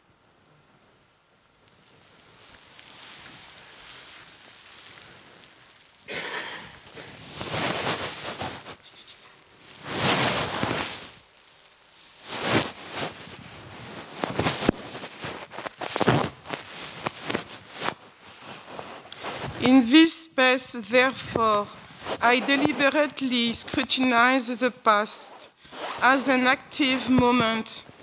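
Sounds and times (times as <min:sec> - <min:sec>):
fabric jacket rustling: 0:02.0 - 0:28.0.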